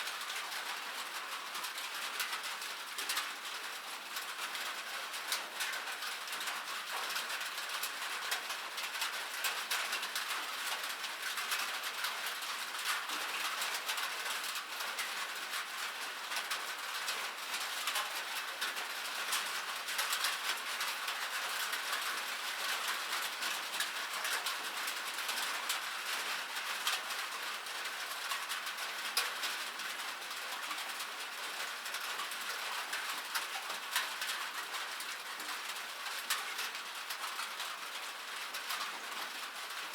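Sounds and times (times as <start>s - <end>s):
rain on metal: 0.0s - 39.9s.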